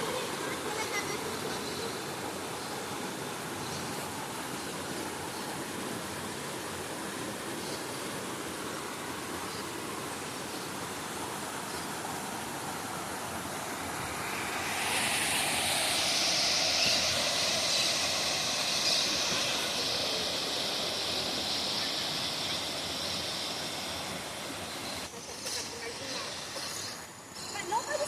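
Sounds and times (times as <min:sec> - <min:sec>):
waterfall rushing water: 0:00.0 - 0:25.1.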